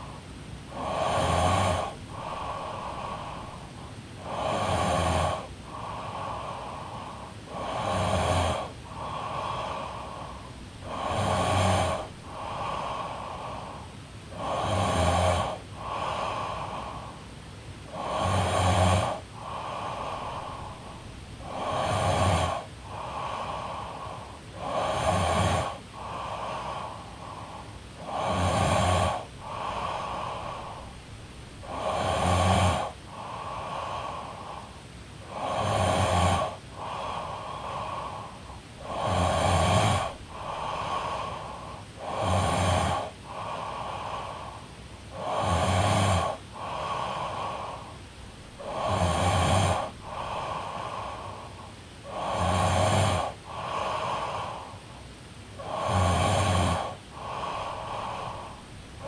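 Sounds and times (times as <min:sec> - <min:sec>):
woman snoring: 0:00.7 - 0:17.2, 0:17.9 - 0:54.8, 0:55.6 - 0:59.0.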